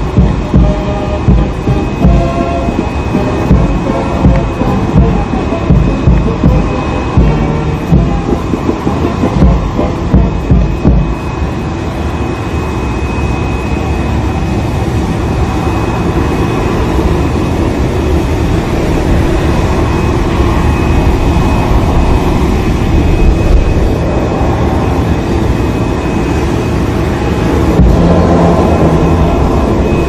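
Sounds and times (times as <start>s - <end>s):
jet engine rumble and whine: 0.0s - 30.0s.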